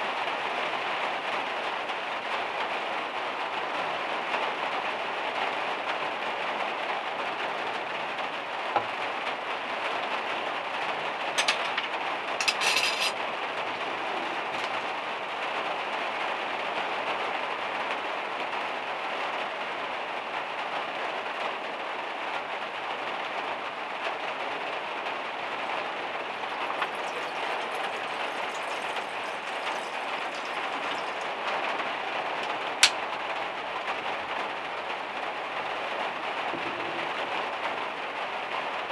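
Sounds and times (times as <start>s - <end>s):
heavy rain on a metal roof: 0.0s - 12.4s, 13.1s - 38.9s.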